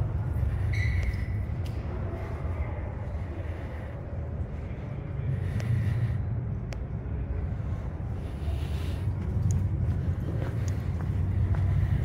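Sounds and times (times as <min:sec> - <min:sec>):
low rumble of indoor hall: 0:00.0 - 0:12.0.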